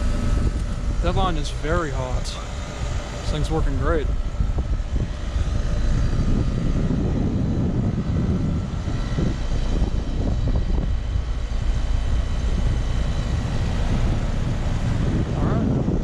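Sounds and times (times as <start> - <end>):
heat pump unit droning: 0.0 - 16.0.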